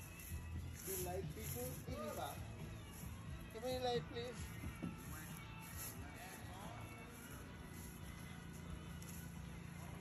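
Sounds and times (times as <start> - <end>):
faint music: 0.0 - 10.0.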